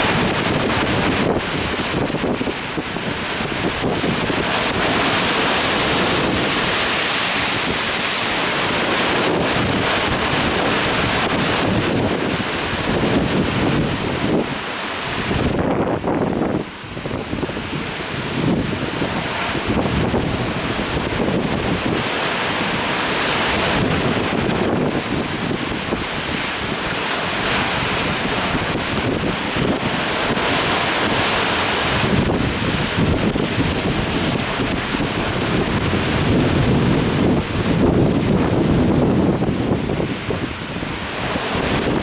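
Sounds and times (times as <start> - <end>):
surf breaking: 0.0 - 42.0
wind buffeting microphone: 0.0 - 42.0.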